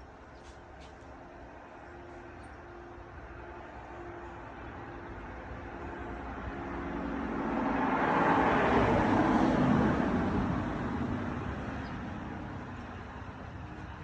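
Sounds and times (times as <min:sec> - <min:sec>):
road vehicle passing by: 0:00.0 - 0:14.0.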